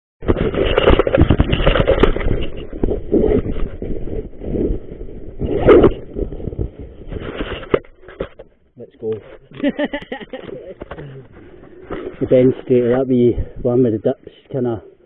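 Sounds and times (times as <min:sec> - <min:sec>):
camera handling rubbing and knocking: 0:00.2 - 0:13.2.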